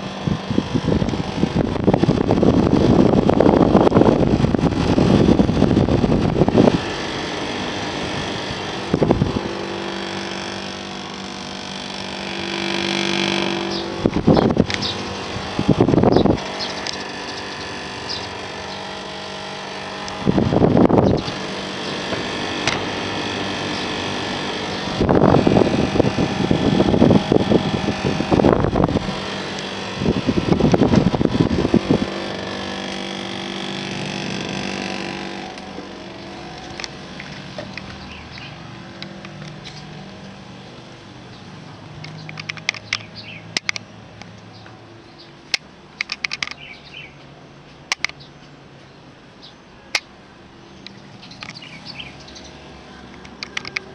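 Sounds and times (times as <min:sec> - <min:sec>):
air conditioner unit humming: 0:00.0 - 0:53.9.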